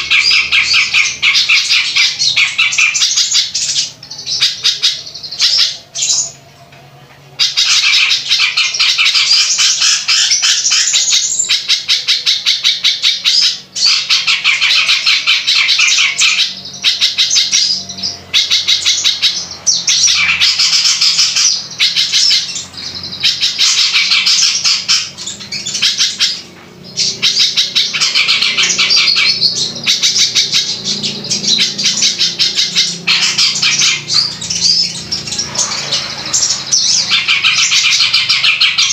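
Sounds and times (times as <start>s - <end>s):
songbird harsh chattering song: 0.0s - 6.4s, 7.4s - 38.9s.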